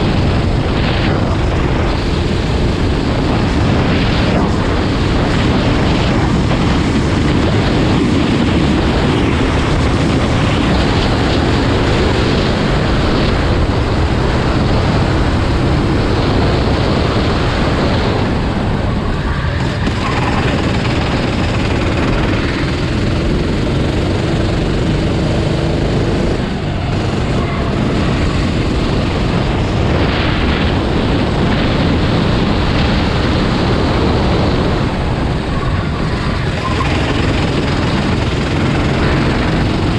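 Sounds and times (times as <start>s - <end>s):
racing engines running: 0.0s - 39.9s.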